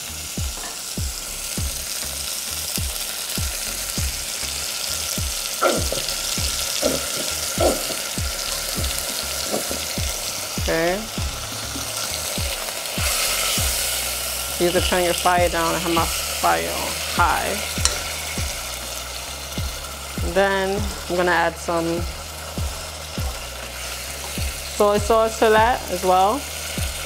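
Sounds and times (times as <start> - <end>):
chicken sizzling in a pot: 0.0 - 27.0.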